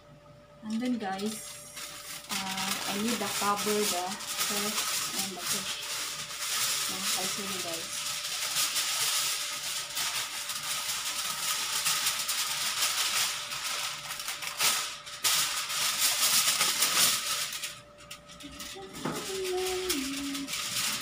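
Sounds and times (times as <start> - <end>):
aluminium foil crinkling: 0.7 - 21.0.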